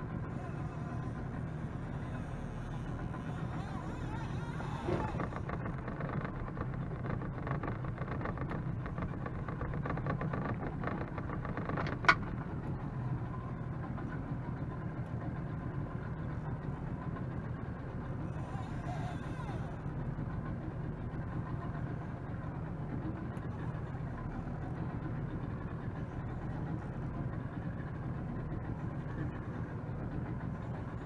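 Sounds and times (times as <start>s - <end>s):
outboard motor idling: 0.0s - 31.0s.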